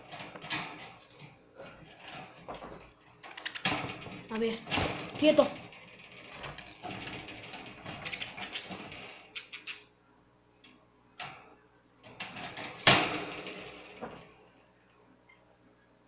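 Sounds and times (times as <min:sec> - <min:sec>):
birdcage rattling and clicking: 0:00.0 - 0:09.9, 0:11.2 - 0:14.4.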